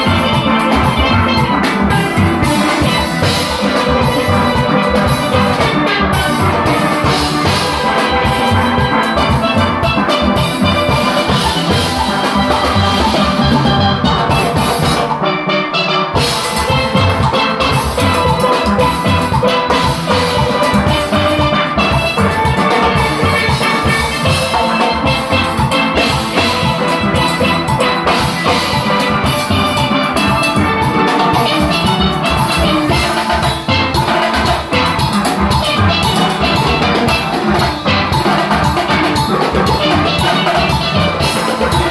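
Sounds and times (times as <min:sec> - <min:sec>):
drum kit beat: 0:00.0 - 0:41.9
steel pans ringing: 0:00.0 - 0:41.9.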